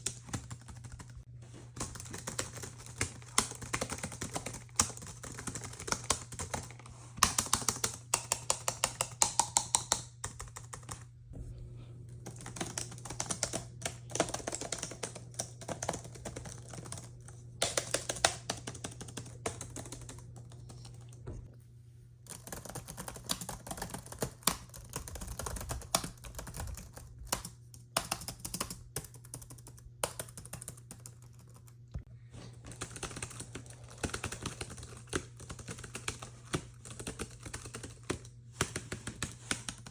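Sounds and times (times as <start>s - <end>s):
laptop keyboard typing: 0.0s - 1.2s, 1.8s - 11.1s, 12.2s - 21.2s, 22.2s - 31.7s, 32.6s - 39.9s
steady low hum: 0.0s - 39.9s.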